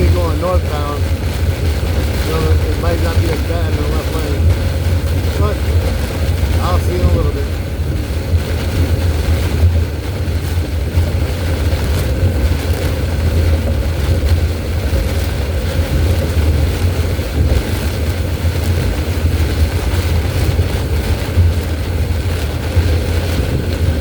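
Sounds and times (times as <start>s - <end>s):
car road and engine noise: 0.0s - 24.0s
rain on car: 0.0s - 24.0s
wind on car: 0.0s - 24.0s.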